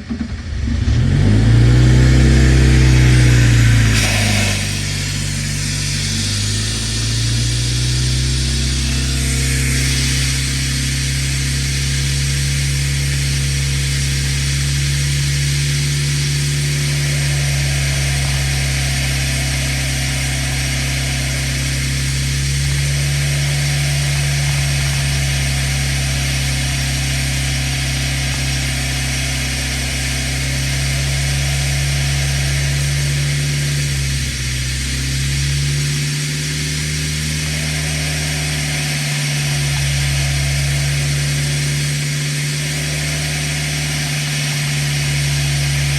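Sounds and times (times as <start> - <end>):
engine idling: 0.0 - 45.9.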